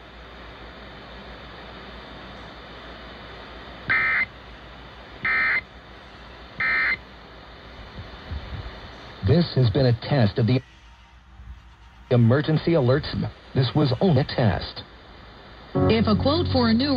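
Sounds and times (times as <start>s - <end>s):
radio hiss: 0.0s - 16.9s.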